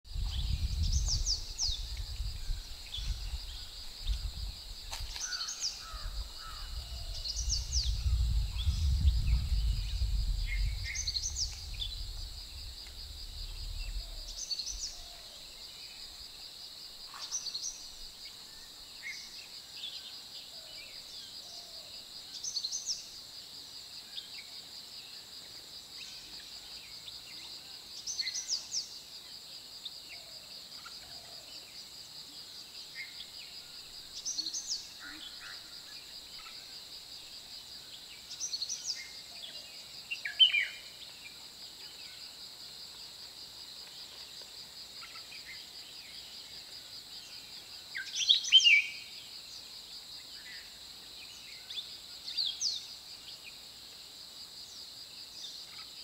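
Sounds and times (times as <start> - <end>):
high insect drone: 0.1 - 56.0.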